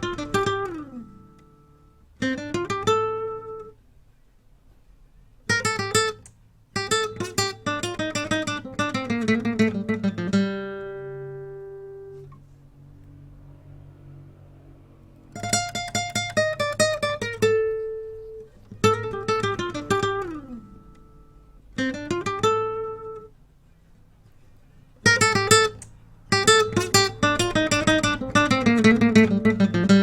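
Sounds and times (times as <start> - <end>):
acoustic guitar plucked notes: 0.0 - 3.8, 5.5 - 12.4, 15.2 - 23.8, 25.0 - 30.0.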